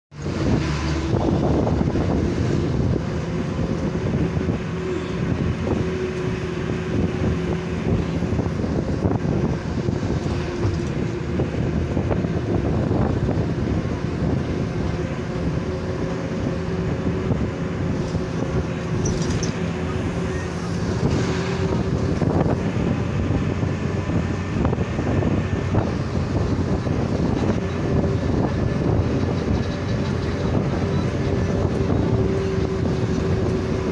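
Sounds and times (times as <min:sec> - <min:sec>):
bus engine and road noise: 0:00.1 - 0:33.9
wind through open window: 0:00.1 - 0:33.9.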